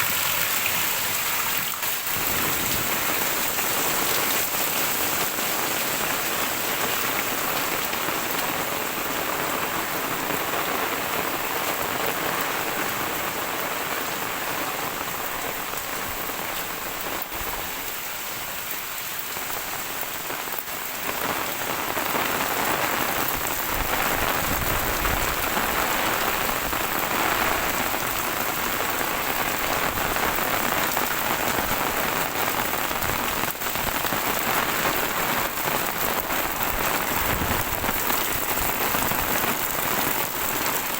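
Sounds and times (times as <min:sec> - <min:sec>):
heavy rain splattering: 0:00.0 - 0:40.9.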